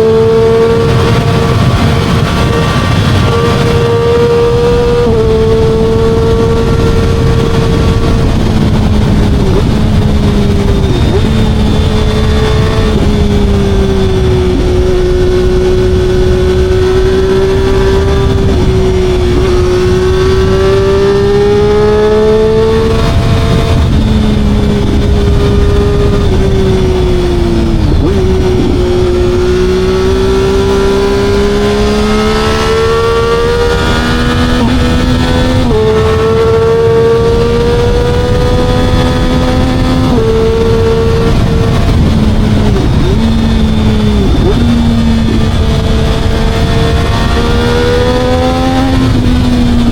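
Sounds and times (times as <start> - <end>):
motorcycle engine changing gear: 0.0 - 49.9
wind rumble on microphone: 0.0 - 49.9.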